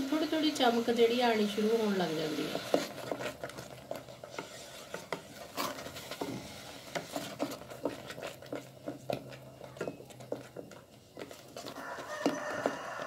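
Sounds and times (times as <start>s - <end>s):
wooden spoon scraping steel pot: 0.1s - 13.0s.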